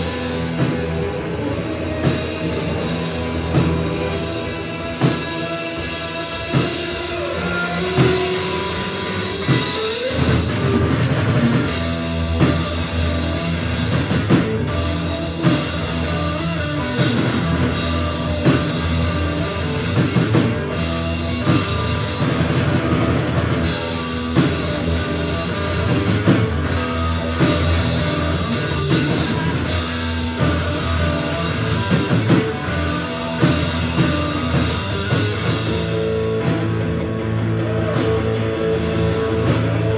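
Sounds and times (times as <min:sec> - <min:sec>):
amplified rock guitar: 0:00.0 - 0:39.9
drum kit playing: 0:00.0 - 0:39.9.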